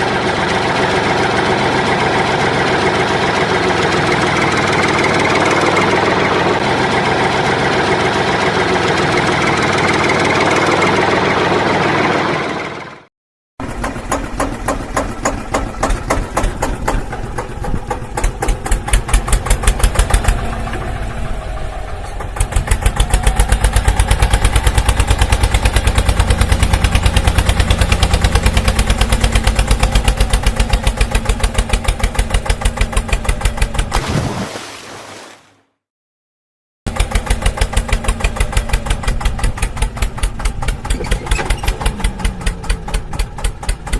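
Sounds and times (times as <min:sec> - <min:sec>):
vehicle engine chugging: 0:00.0 - 0:33.9, 0:36.9 - 0:43.9.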